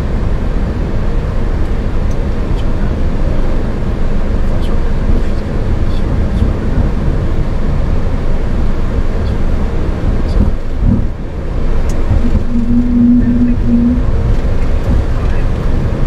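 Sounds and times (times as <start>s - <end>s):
airliner cockpit low rumble: 0.0s - 16.0s
steady hum: 2.2s - 16.0s.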